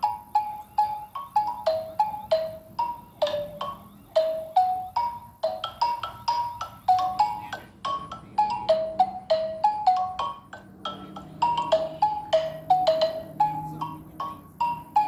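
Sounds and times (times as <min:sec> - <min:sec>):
xylophone melody: 0:00.0 - 0:15.0.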